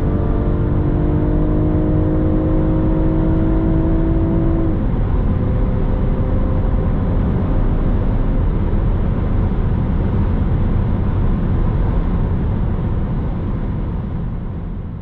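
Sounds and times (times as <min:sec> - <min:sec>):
car engine drone: 0:00.0 - 0:15.0
road rumble: 0:00.0 - 0:15.0.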